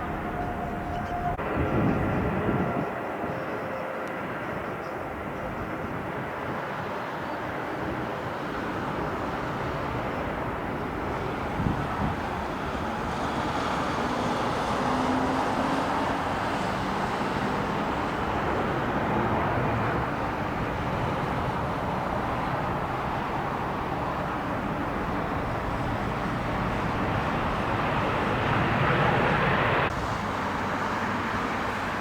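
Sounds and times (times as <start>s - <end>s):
jet engines rushing: 0.0s - 32.0s.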